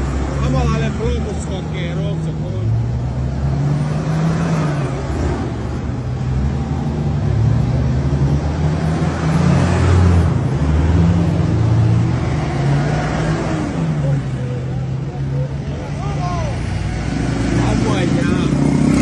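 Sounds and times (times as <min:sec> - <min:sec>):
military vehicles driving past: 0:00.0 - 0:19.0.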